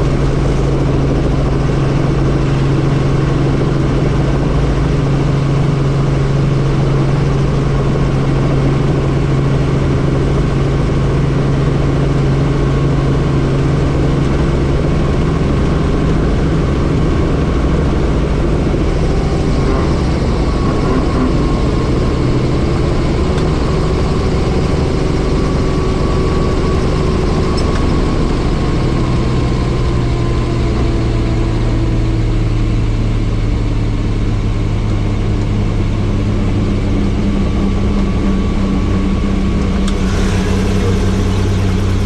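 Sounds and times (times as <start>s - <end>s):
helicopter rotor and engine: 0.0s - 42.0s.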